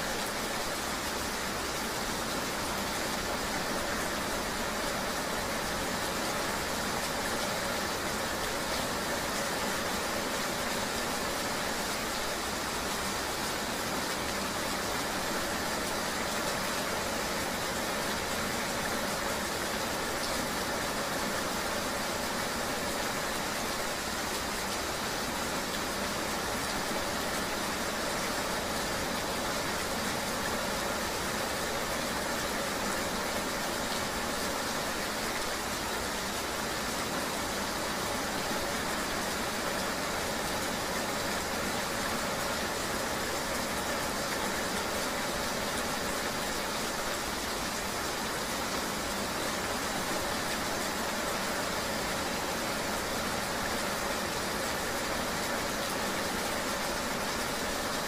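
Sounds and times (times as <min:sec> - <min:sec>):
rain hissing: 0:00.0 - 0:58.0.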